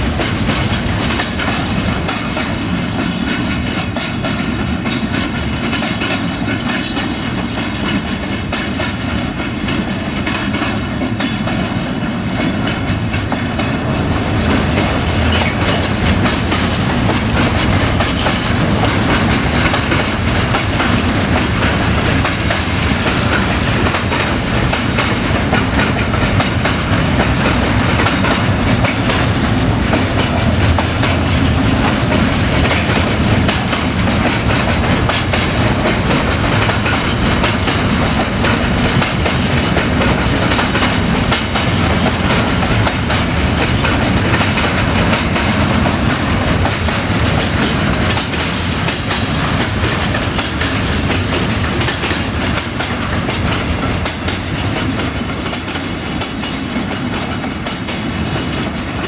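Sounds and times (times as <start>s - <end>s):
wheels clacking over rail joints: 0.0s - 59.0s
wheels rumbling on rail: 0.0s - 59.0s.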